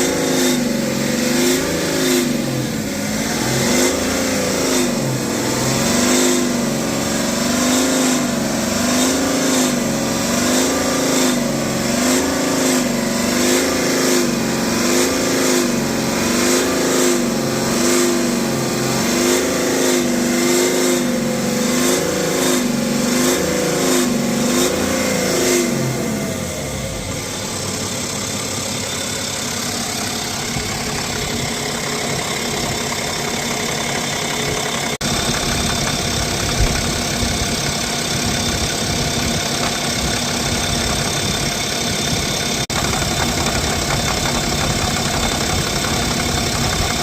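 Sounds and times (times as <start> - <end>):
diesel engine revving: 0.0 - 47.0.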